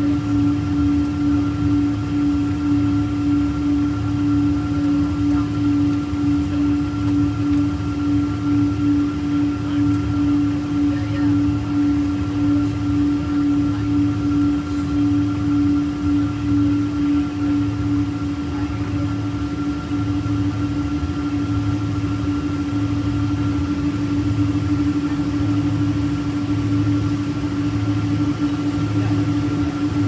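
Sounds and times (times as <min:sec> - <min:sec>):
jet engine drone: 0:00.0 - 0:30.0
throbbing low hum: 0:00.0 - 0:30.0.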